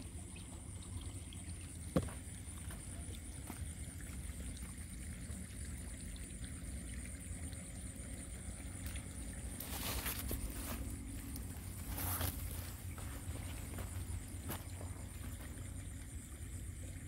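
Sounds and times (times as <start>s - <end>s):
insect trill: 0.0s - 17.0s
low rumble of water: 0.0s - 17.0s.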